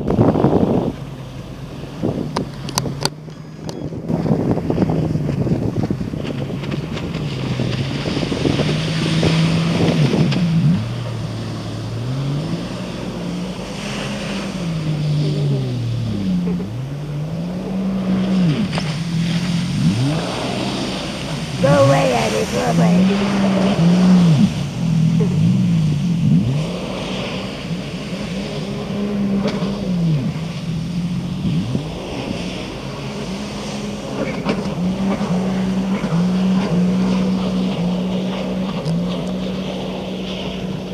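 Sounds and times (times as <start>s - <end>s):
jet ski engine revving: 0.0s - 40.9s
wind on microphone: 0.0s - 40.9s.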